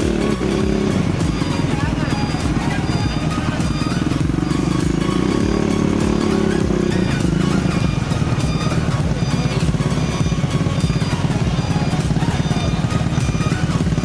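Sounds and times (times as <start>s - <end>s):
diesel truck engine under load: 0.0s - 14.0s
faint background music: 0.0s - 14.0s.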